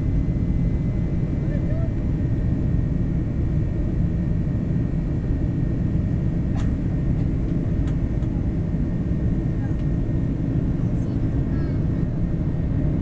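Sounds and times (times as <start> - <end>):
jet airliner cabin rumble: 0.0 - 13.0.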